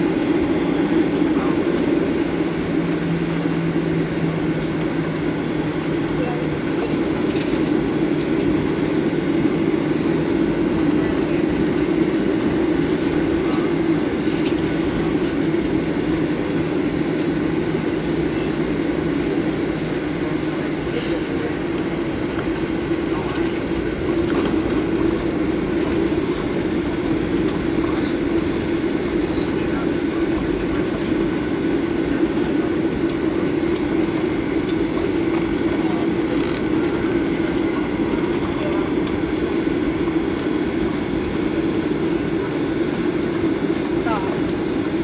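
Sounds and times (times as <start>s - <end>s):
aircraft cabin rumble: 0.0s - 45.0s
jet engines at taxi power: 0.0s - 45.0s.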